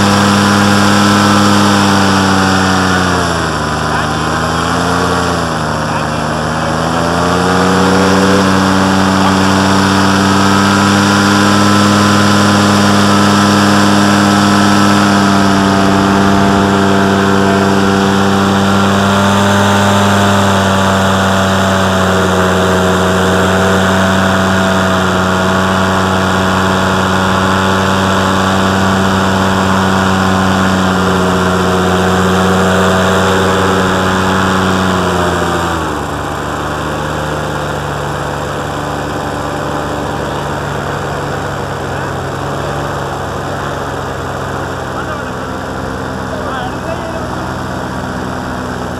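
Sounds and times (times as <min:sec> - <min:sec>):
paramotor engine and propeller: 0:00.0 - 0:48.9.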